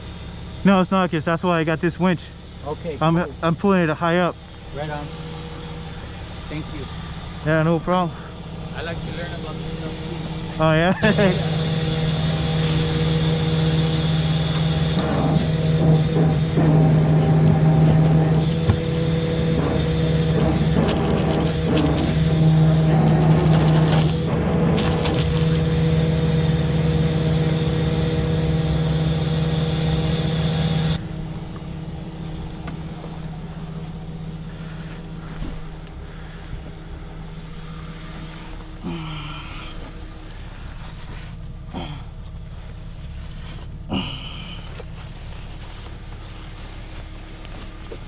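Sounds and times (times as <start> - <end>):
tow truck engine under load: 0.0 - 48.0.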